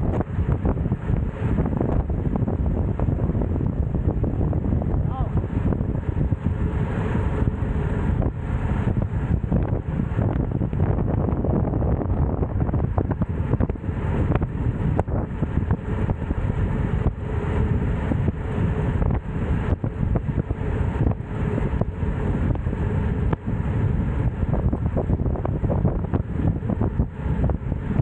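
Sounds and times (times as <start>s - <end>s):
road rumble: 0.0s - 28.0s
wind rushing over microphone: 0.0s - 28.0s.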